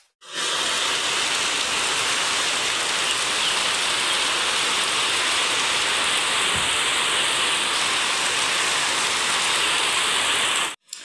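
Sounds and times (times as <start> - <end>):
heavy rain on a metal roof: 0.2 - 10.8
rainwater running off roof: 0.2 - 11.0.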